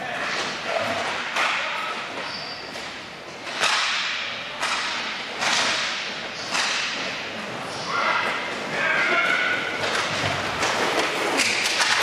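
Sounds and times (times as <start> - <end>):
hockey sticks and puck cracking: 0.2 - 12.0.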